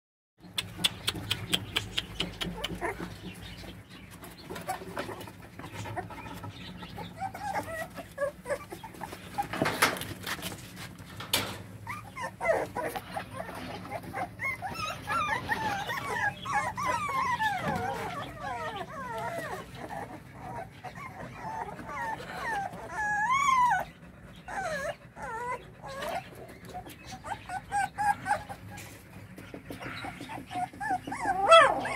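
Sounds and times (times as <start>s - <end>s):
puppies whining and yelping: 0.5s - 11.0s, 11.7s - 31.9s.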